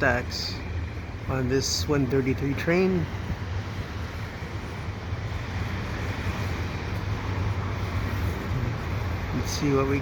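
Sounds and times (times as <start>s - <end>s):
distant freight train rumbling: 0.0s - 10.0s.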